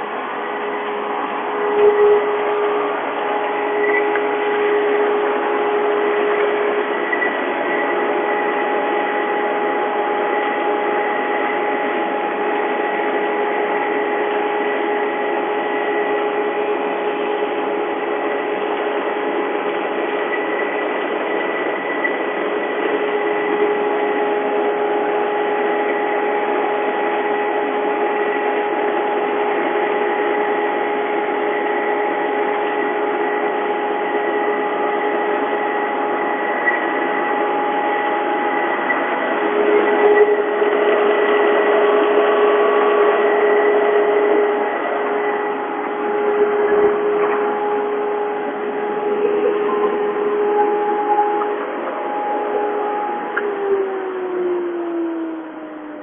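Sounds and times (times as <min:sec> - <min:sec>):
planer machine running with whine: 0:00.0 - 0:56.0.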